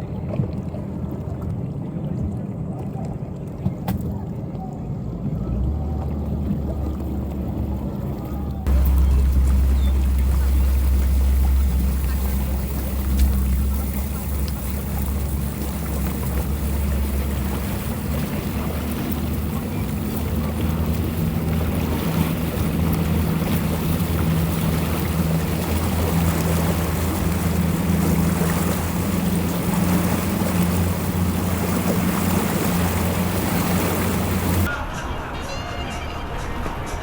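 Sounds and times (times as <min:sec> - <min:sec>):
boat engines humming: 0:00.0 - 0:37.0
water noise: 0:00.0 - 0:37.0
wind: 0:00.0 - 0:37.0.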